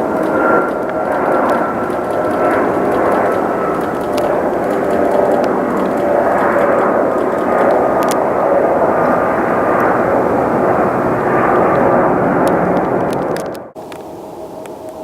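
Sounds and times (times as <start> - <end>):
faint engine whine: 0.0 - 15.0
jet engines roaring: 0.0 - 15.0.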